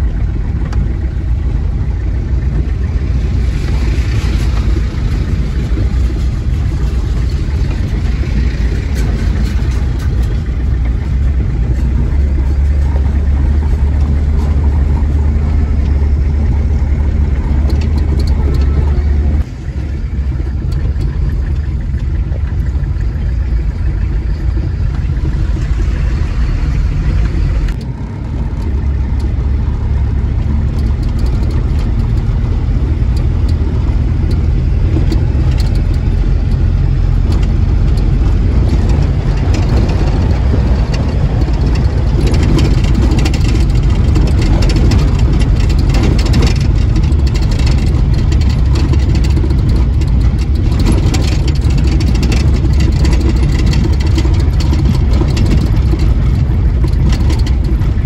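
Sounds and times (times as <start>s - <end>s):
truck engine and tyres on stony road: 0.0s - 58.0s.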